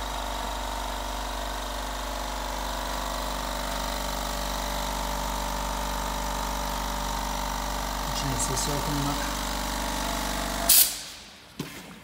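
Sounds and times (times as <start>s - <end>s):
machine hum with constant tones: 0.0s - 12.0s.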